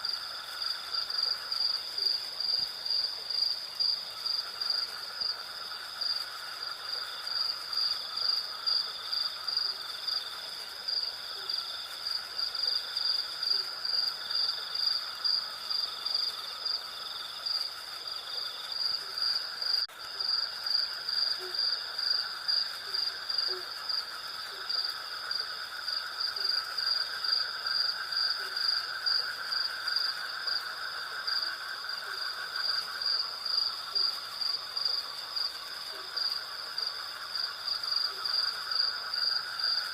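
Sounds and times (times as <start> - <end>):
crickets chirping: 0.0 - 39.9
low insect drone: 0.0 - 39.9.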